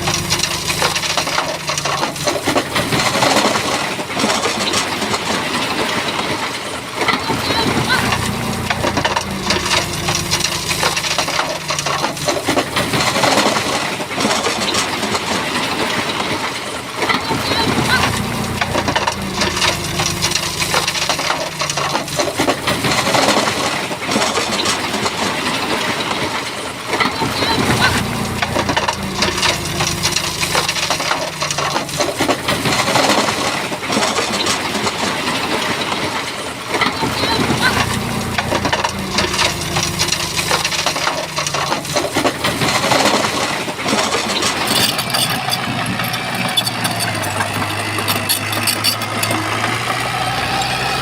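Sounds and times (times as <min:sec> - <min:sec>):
bulldozer engine: 0:00.0 - 0:51.0
rock grinding and clattering: 0:00.0 - 0:51.0.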